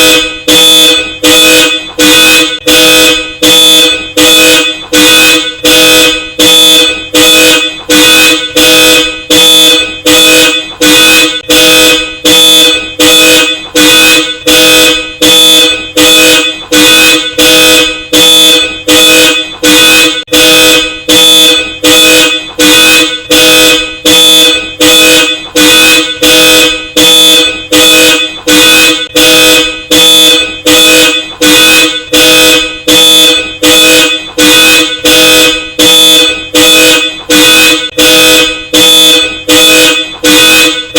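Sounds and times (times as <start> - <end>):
car horn blasts: 0.0 - 40.9.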